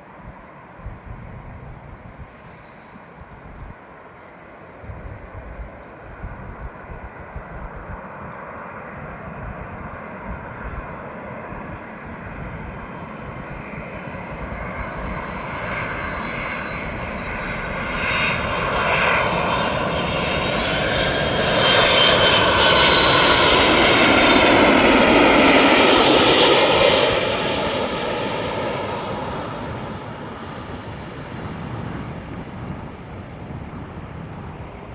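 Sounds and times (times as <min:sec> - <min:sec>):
plane engines passing: 0:00.0 - 0:34.9.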